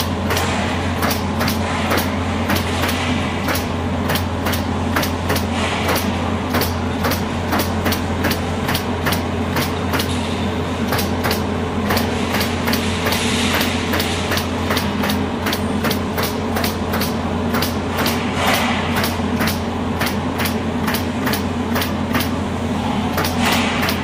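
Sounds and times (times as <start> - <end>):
pneumatic nailer shots: 0.0 - 22.4, 23.1 - 24.0.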